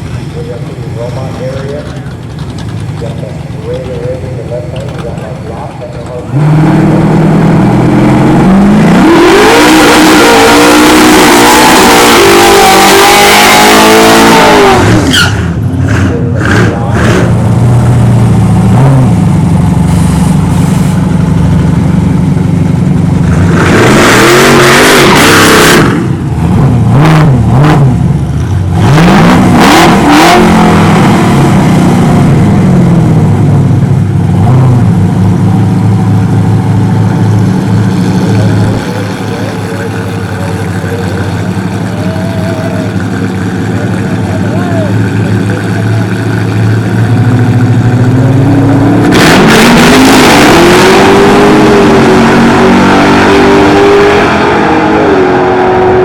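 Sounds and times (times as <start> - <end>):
drag truck engines at full throttle: 0.0 - 56.0
engines revving: 0.0 - 56.0.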